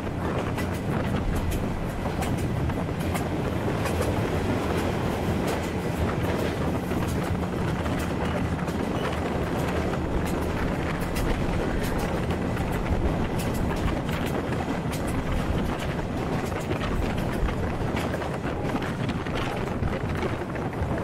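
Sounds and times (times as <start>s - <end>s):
train carriage rumbling: 0.0s - 21.0s
train wheels clicking: 0.0s - 21.0s.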